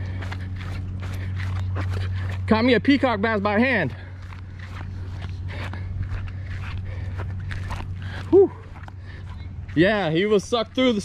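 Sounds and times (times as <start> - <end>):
soft footsteps: 0.0 - 11.0
steady low hum: 0.0 - 11.0.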